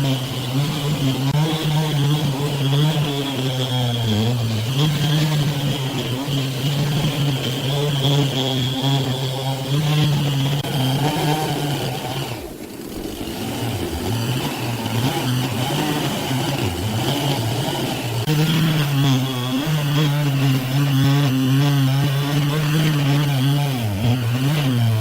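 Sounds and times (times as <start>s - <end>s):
sawmill machine running: 0.0s - 25.0s.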